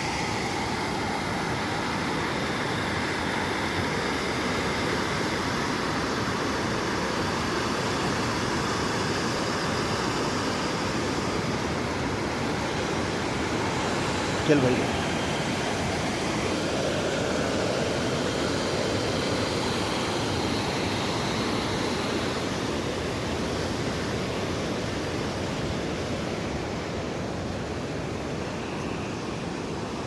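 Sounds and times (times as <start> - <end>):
stream rushing: 0.0 - 30.0.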